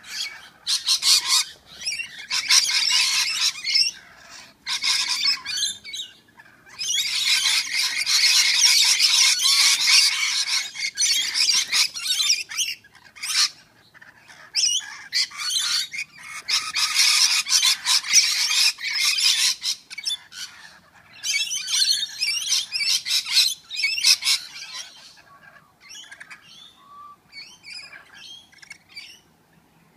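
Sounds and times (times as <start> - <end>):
lorikeets screeching: 0.0 - 29.3
faint bird chirps: 0.0 - 29.9.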